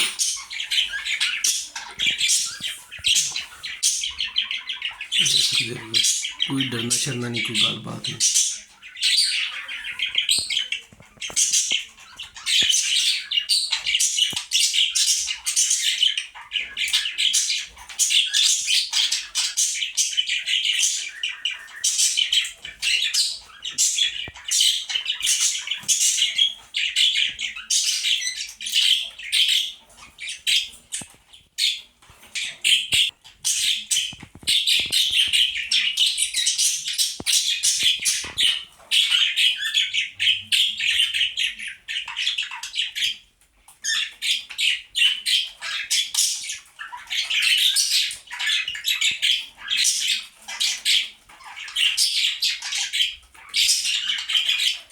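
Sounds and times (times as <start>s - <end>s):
budgerigars chattering and chirping: 0.0s - 54.9s.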